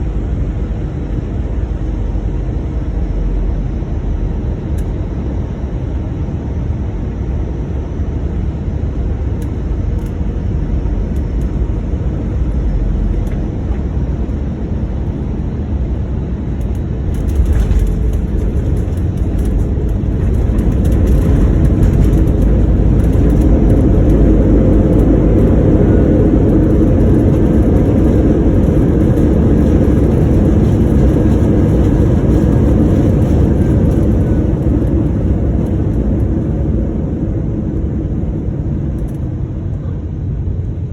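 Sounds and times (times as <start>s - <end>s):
jet engine roar in cabin: 0.0s - 40.9s.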